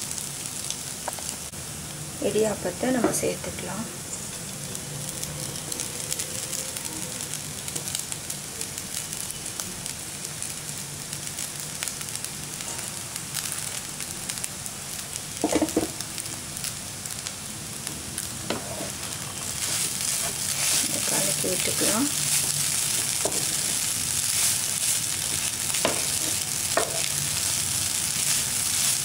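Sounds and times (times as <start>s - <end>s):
frying sizzle in a pan: 0.0s - 29.0s.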